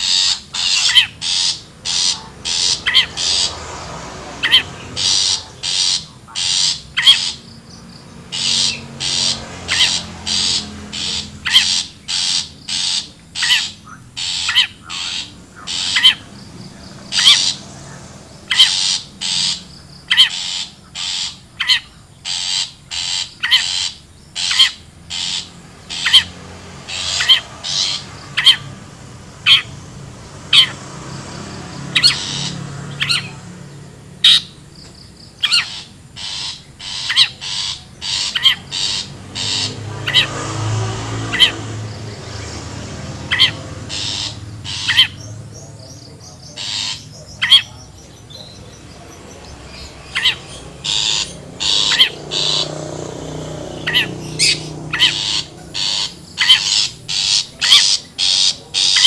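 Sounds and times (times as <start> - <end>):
shrike harsh rasping calls: 0.0 - 59.0.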